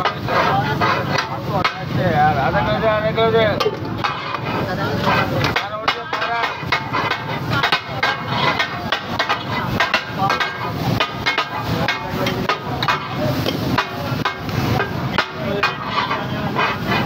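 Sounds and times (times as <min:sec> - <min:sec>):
metal spatulas clattering on griddle: 0:00.0 - 0:01.9, 0:03.6 - 0:17.0.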